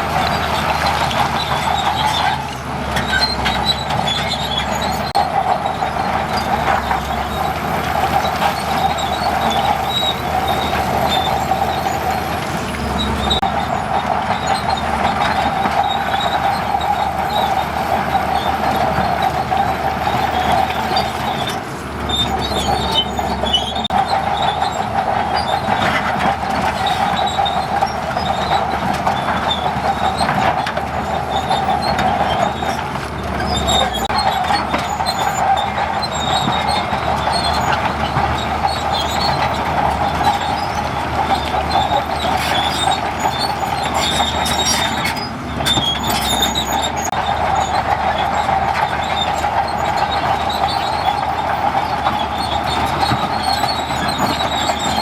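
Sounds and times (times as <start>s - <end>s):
bulldozer engine running: 0.0s - 55.0s
steel tracks squealing and clanking: 0.0s - 55.0s.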